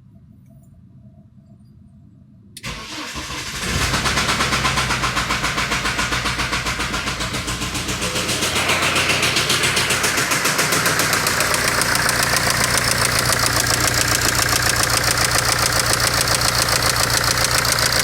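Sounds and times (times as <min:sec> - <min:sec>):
diesel engine starting and idling: 0:02.6 - 0:18.0
engine knock: 0:02.7 - 0:18.0.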